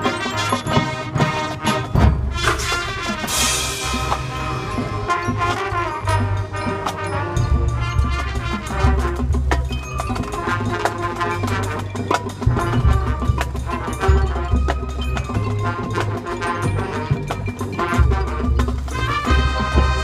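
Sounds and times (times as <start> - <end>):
marching band percussion: 0.0 - 20.0.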